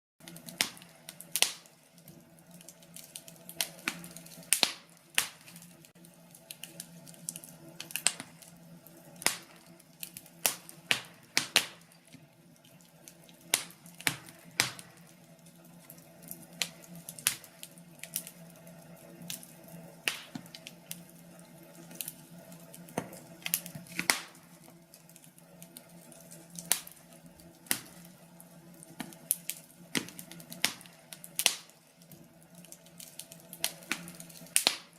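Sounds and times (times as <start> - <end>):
wood fire crackling: 0.2 - 34.9.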